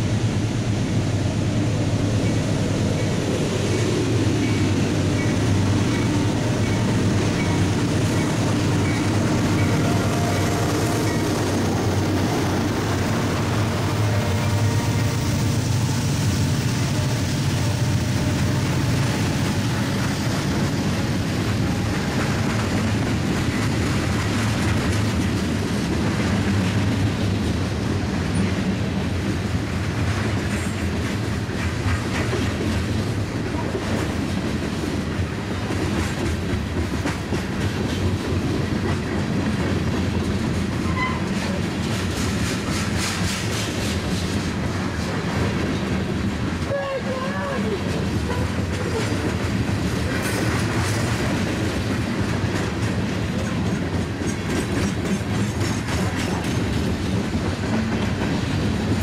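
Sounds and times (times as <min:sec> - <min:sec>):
train wheels rumbling on rail: 0:00.0 - 0:59.0
clickety-clack over rail joints: 0:00.6 - 0:59.0.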